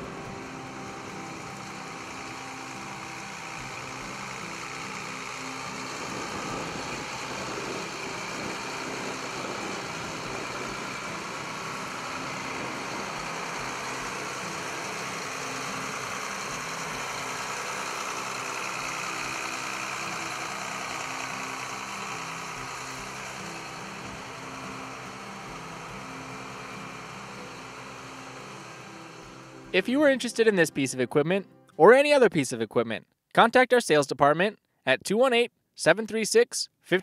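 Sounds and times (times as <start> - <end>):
diesel tractor engine idling: 0.0 - 30.7.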